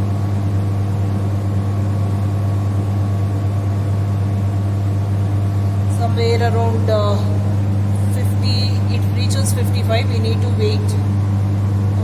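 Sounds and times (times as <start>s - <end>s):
air conditioning compressor hum: 0.0s - 12.0s.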